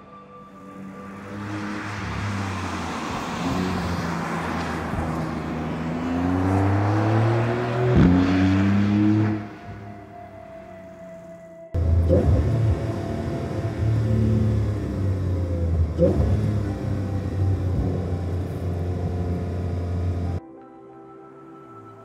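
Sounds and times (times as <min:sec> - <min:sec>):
car engine accelerating hard: 0:00.8 - 0:10.1, 0:11.7 - 0:20.4.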